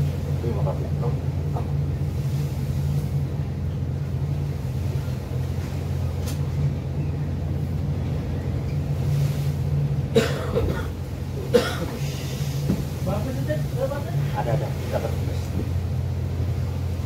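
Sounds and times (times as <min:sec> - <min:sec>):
diesel engines droning: 0:00.0 - 0:17.0.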